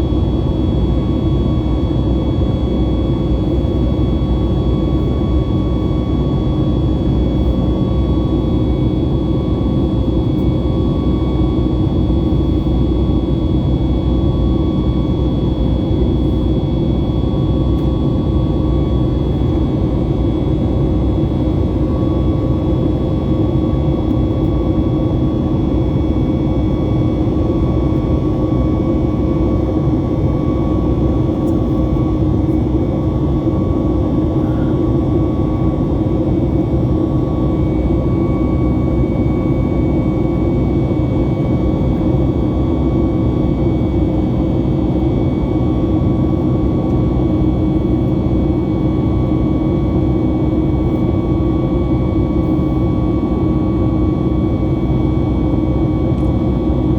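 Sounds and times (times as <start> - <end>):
jet engines roaring in cabin: 0.0 - 56.9.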